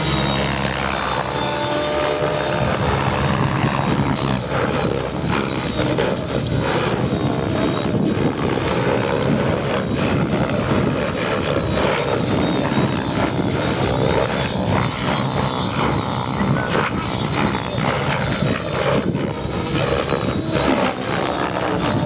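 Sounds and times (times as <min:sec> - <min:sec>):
model helicopter rotor and motor: 0:00.0 - 0:22.0.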